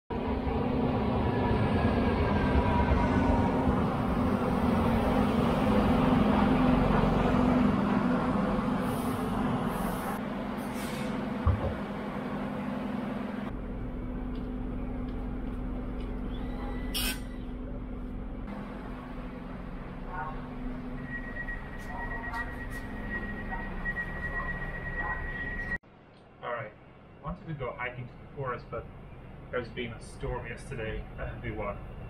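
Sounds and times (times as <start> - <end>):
train hum and rumble: 0.1 - 32.0.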